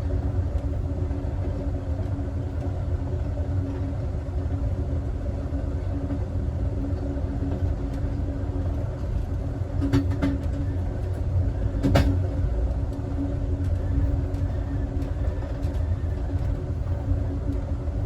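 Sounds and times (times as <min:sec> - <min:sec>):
train car rumbling on track: 0:00.0 - 0:18.0.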